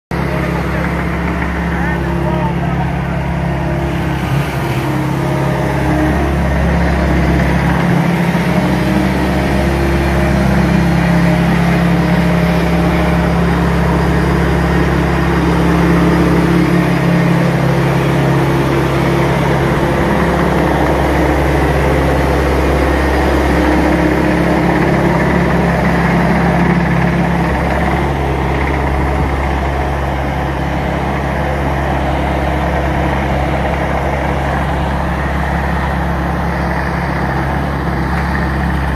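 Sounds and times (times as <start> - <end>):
loader engine running: 0.1 - 38.9.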